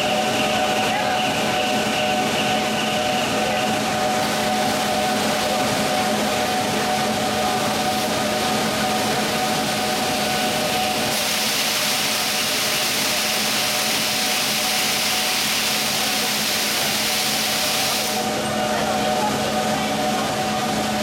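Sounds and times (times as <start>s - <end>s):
production line machinery din: 0.0s - 21.0s
steady machine hums: 0.0s - 21.0s.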